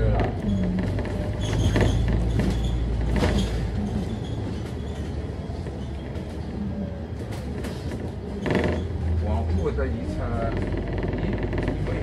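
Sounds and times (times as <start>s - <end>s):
bus diesel engine rumble: 0.0s - 12.0s
road noise: 0.0s - 12.0s.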